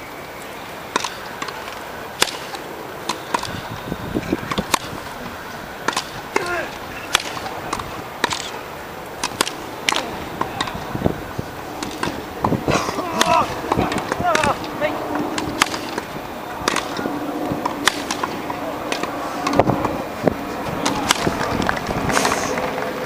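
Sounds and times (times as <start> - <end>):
murmured spectator chatter: 0.4 - 23.0
tennis balls struck with rackets: 0.9 - 3.7, 4.3 - 20.0, 20.6 - 21.9.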